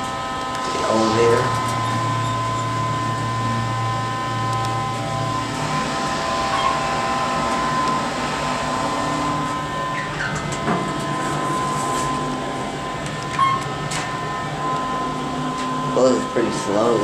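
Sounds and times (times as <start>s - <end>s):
elevator pump motor hum: 0.0s - 17.0s
ventilation fan: 0.0s - 17.0s.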